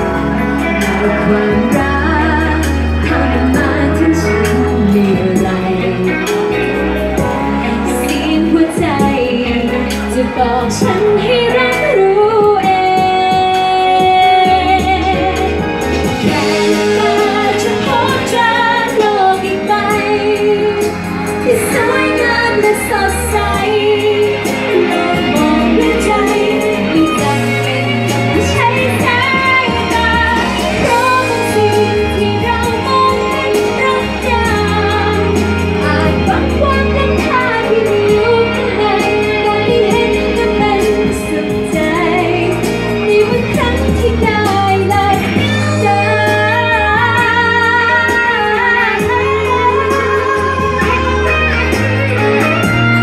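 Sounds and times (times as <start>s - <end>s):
instrumental accompaniment: 0.0s - 53.0s
woman singing pop song: 0.0s - 53.0s.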